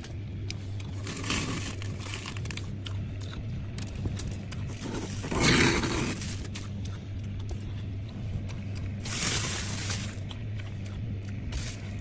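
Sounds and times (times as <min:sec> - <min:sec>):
freezer frost crunching: 0:00.0 - 0:12.0
steady low hum: 0:00.0 - 0:12.0.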